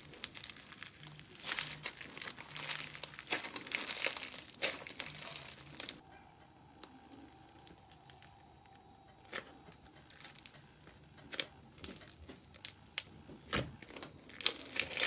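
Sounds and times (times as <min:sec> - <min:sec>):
slime crackling and squishing: 0:00.0 - 0:06.0, 0:06.8 - 0:15.0.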